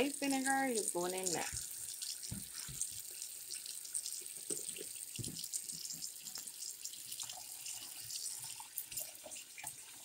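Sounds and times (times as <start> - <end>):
tap running into water: 0.0 - 10.0.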